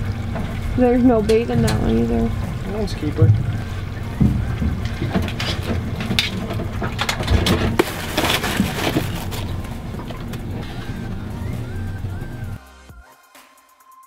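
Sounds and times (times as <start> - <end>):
boat engine humming: 0.0 - 12.9.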